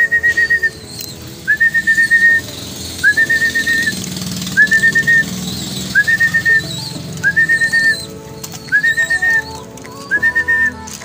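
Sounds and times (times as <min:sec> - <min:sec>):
person whistling: 0:00.0 - 0:10.9.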